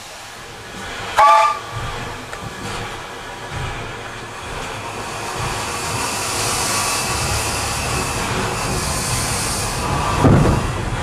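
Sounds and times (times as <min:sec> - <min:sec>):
train wheels running on rails: 0:00.0 - 0:11.0.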